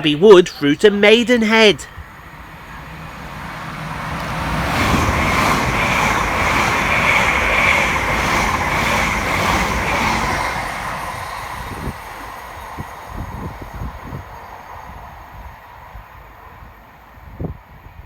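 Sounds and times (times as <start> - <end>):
electric train passing: 1.9 - 17.9.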